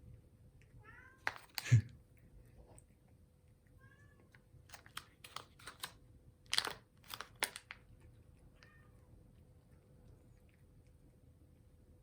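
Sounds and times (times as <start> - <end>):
cat crunching dry treat: 0.6 - 11.3.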